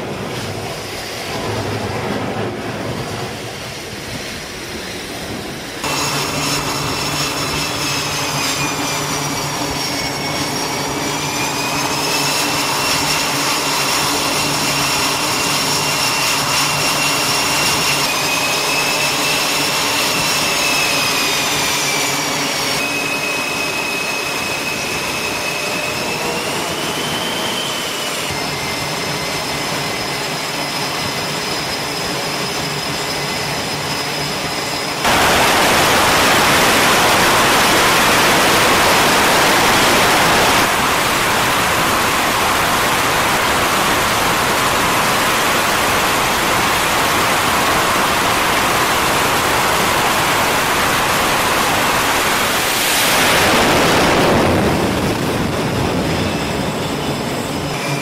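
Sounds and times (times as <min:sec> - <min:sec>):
jet engines whining: 0:00.0 - 0:58.0
jet exhaust rushing: 0:00.0 - 0:58.0.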